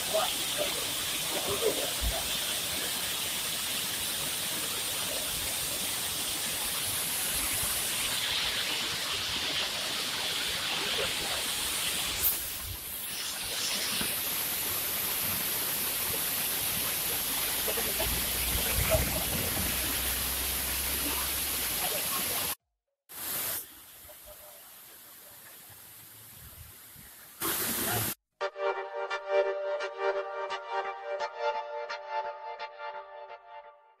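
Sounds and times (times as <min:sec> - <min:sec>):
waterfall splashing onto rocks: 0:00.0 - 0:28.2.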